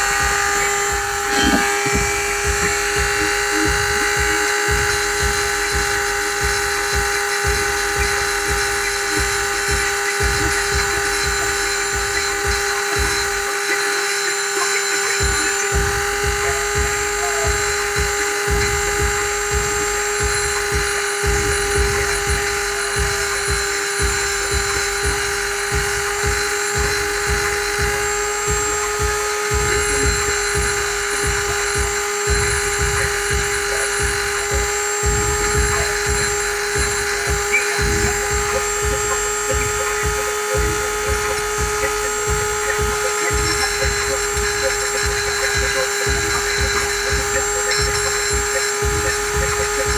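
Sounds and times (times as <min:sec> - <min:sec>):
rotary tool grinding blade: 0:00.0 - 0:49.9.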